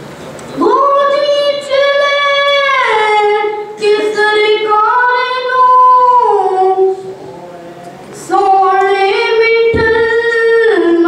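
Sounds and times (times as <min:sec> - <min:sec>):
boy singing unaccompanied: 0:00.6 - 0:07.2, 0:08.2 - 0:11.0.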